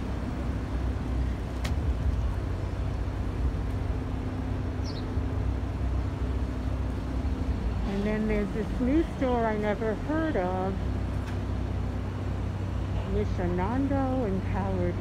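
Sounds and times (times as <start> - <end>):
constant hum: 0.0 - 15.0
traffic rumble: 0.0 - 15.0.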